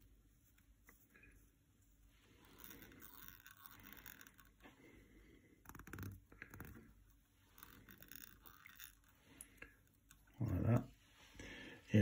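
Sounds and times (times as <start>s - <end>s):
fingers scraping and rustling thread: 0.0s - 11.0s.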